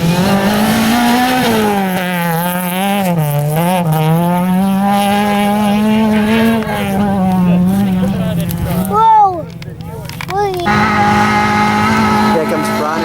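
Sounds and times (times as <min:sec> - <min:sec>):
car engine revving high: 0:00.0 - 0:09.5, 0:10.4 - 0:13.0.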